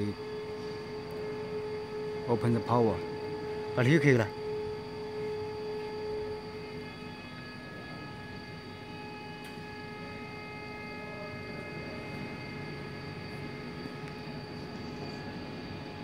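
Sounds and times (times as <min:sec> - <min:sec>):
electrical hum and whine: 0:00.0 - 0:16.0.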